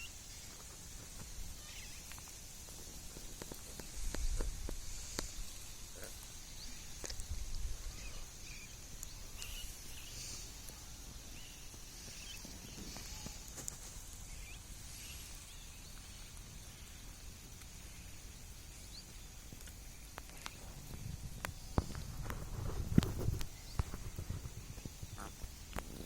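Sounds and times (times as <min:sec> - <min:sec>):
steady high hiss: 0:00.0 - 0:26.0
birds chirping: 0:01.2 - 0:25.8.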